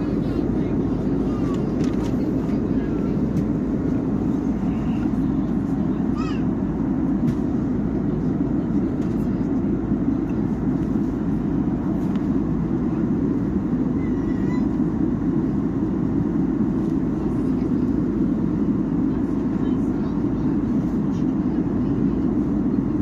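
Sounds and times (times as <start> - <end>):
airliner cabin drone: 0.0 - 23.0.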